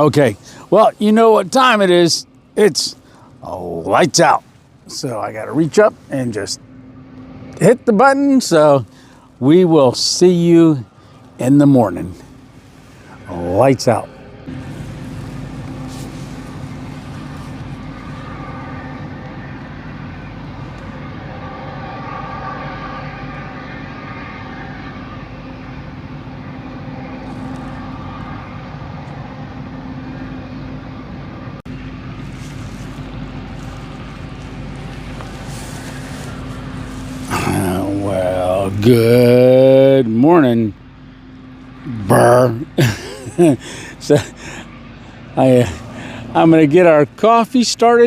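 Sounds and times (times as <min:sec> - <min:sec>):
constant hum: 0:00.0 - 0:48.0
low drone: 0:00.0 - 0:48.0.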